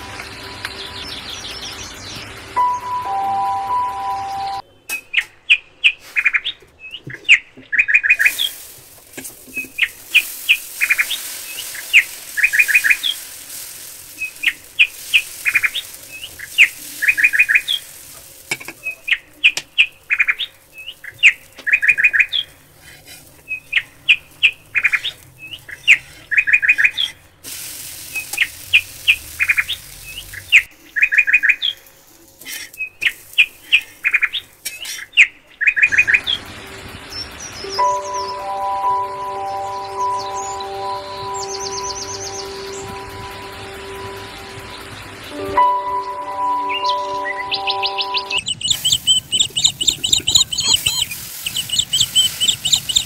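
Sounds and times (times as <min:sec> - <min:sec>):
small birds chirping: 0:00.0 - 0:08.7, 0:09.3 - 0:53.0.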